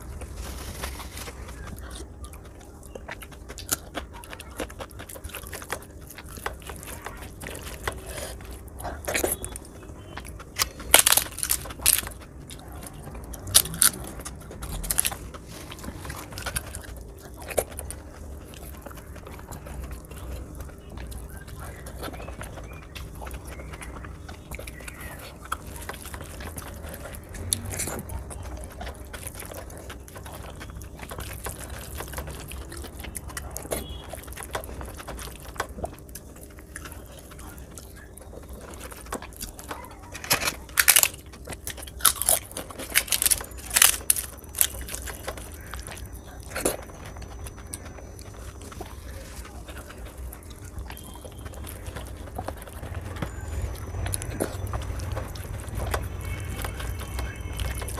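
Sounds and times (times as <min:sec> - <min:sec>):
chewing: 0:00.0 - 0:57.9
low steady hum: 0:00.0 - 0:57.9
sharp crunches: 0:03.0 - 0:57.9.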